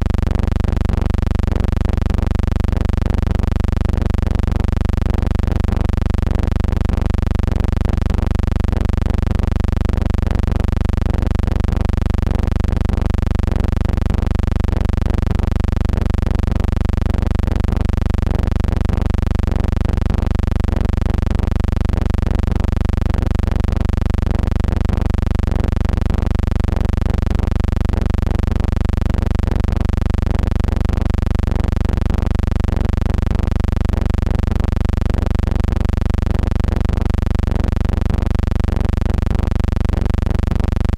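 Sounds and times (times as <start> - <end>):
low electrical hum: 0.0 - 40.9.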